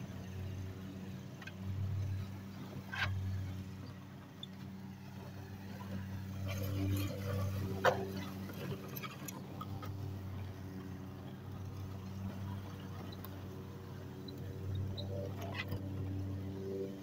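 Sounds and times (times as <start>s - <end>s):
push sweeper rolling: 0.1s - 17.0s.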